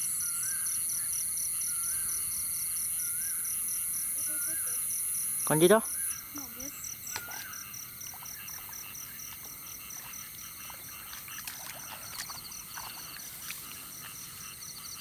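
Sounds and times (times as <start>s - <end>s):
insect fast trill: 0.0s - 15.0s
insects chirping: 0.0s - 15.0s.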